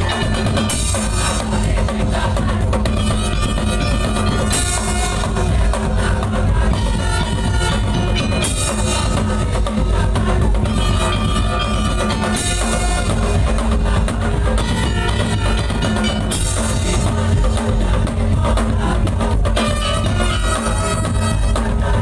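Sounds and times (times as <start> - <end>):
drums and percussion: 0.0 - 22.0.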